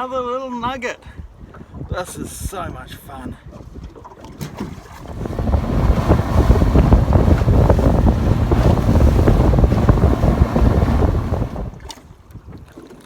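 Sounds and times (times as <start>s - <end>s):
wind buffeting microphone: 1.1s - 12.7s.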